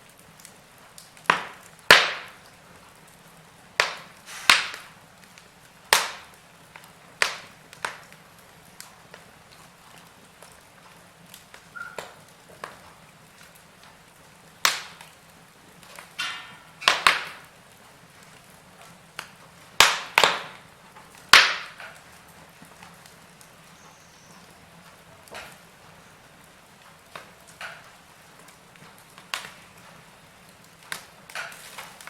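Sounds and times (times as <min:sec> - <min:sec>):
low steady hiss: 0:00.0 - 0:32.0
wood fire crackling: 0:00.0 - 0:32.0.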